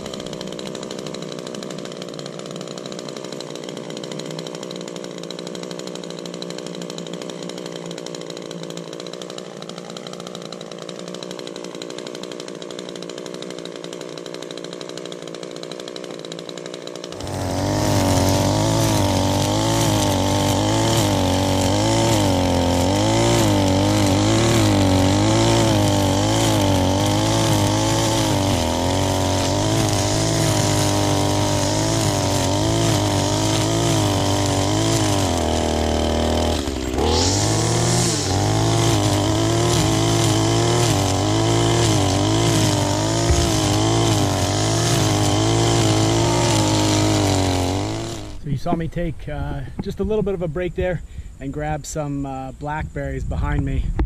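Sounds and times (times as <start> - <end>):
string trimmer engine running: 0.0 - 51.8.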